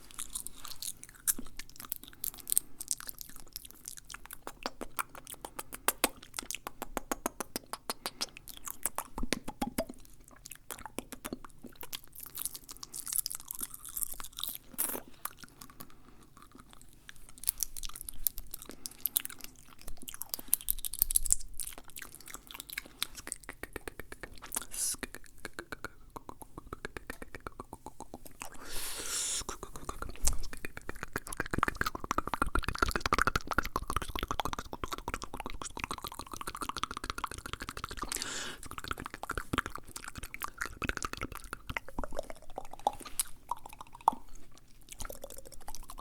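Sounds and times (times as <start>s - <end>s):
wet mouth clicks and smacks: 0.0s - 46.0s.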